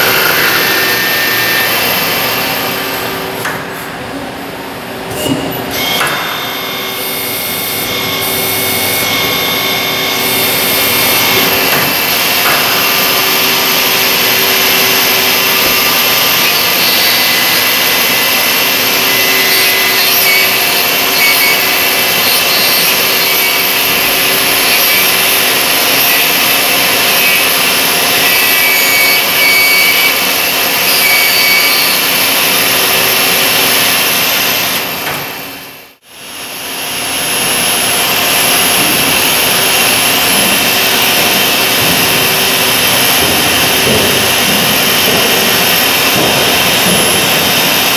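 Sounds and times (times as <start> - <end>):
machine whining tones: 0.0 - 47.9.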